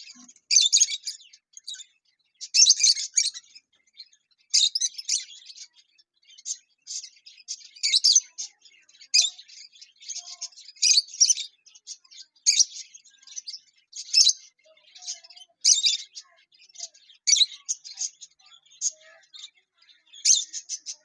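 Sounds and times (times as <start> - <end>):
lovebirds chirping: 0.0 - 21.0.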